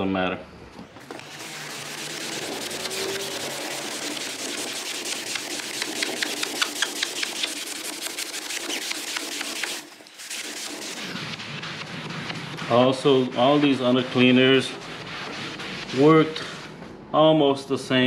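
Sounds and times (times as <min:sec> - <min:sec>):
foam pad scrubbing wet vinyl: 0:00.9 - 0:16.9.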